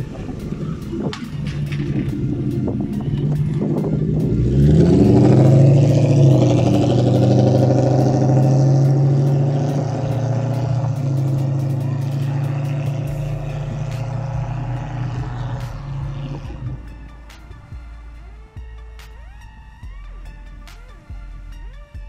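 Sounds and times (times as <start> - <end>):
car engine revving and pulling away: 0.0 - 21.8.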